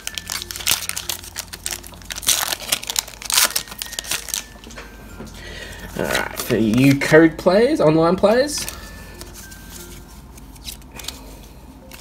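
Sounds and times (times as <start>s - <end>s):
foil wrapper crinkling: 0.0s - 4.7s, 5.9s - 7.4s, 8.2s - 12.0s.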